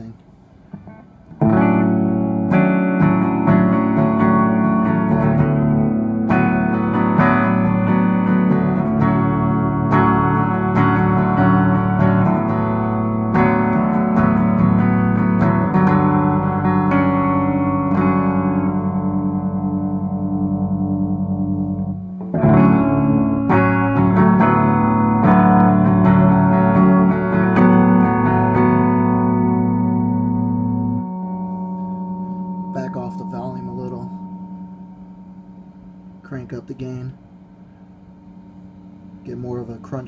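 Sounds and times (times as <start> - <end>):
electric guitar notes and chords: 0.7 - 40.0.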